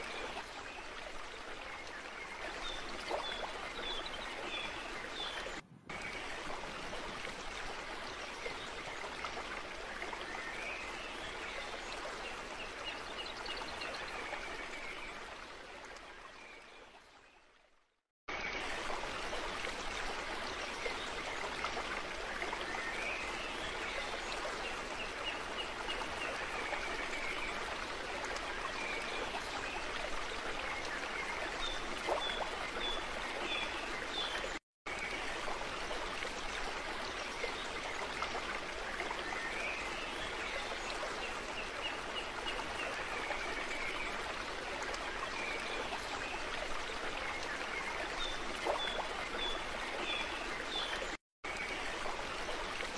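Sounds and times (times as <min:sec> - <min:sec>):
rushing stream water: 0:00.0 - 0:52.9.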